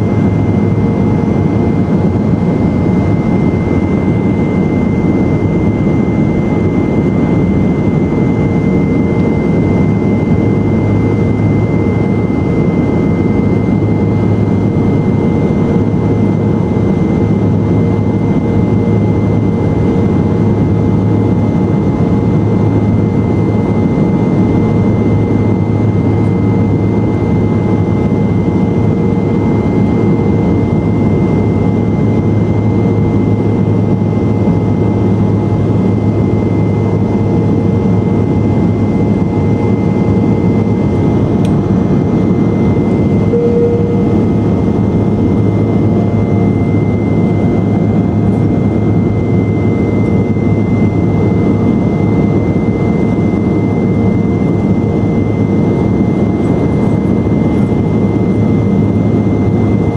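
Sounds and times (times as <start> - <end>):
high whine: 0.0 - 59.9
turboprop engine drone: 0.0 - 59.9.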